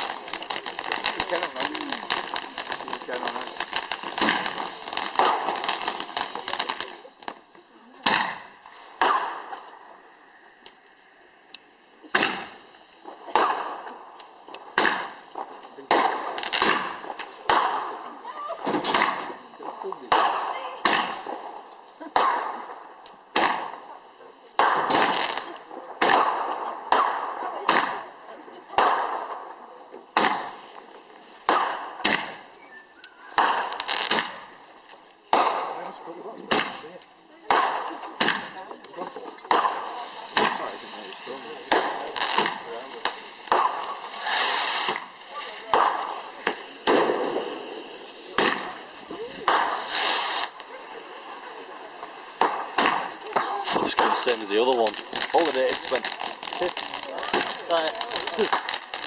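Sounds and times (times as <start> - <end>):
fireworks bangs: 0.0 - 59.0
fireworks crackle: 0.0 - 59.0.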